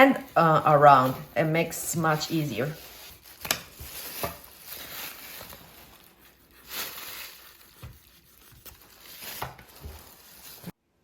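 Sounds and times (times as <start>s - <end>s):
knife cutting and scraping ham: 0.0s - 10.8s.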